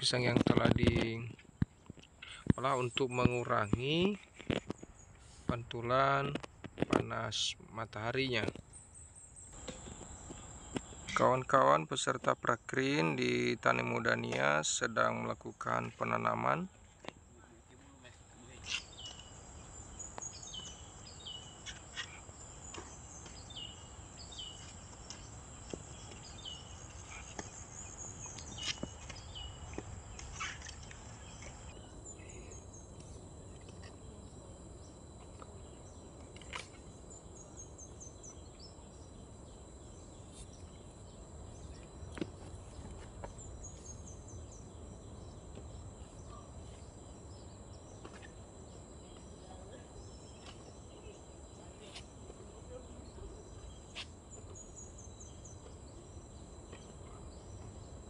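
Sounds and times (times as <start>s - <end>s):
high insect drone: 2.2s - 58.0s.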